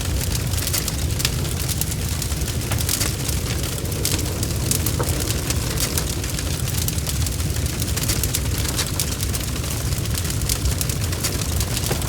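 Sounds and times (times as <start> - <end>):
burning logs crackling and popping: 0.0 - 12.0
low rumble of flame: 0.0 - 12.0.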